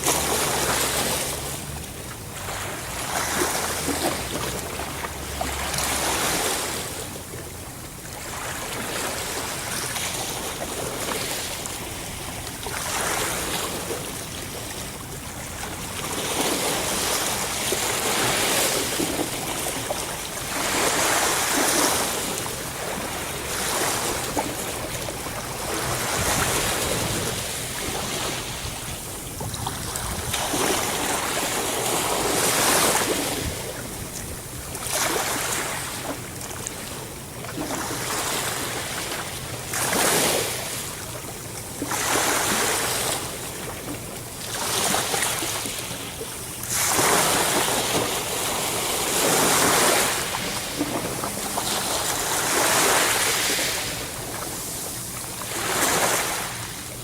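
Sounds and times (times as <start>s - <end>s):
sea waves washing onto shore: 0.0s - 57.0s.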